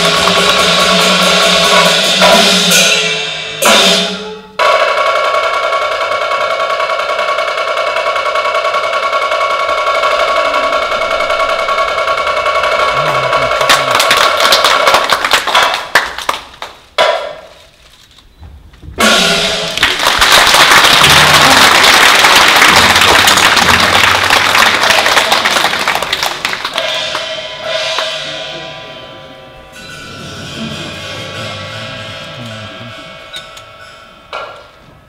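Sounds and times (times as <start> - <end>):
drums and gongs playing: 0.0 - 16.0, 18.4 - 35.0.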